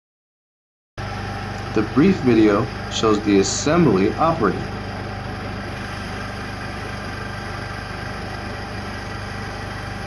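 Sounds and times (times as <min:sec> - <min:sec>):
small engine idling: 0:01.0 - 0:10.0.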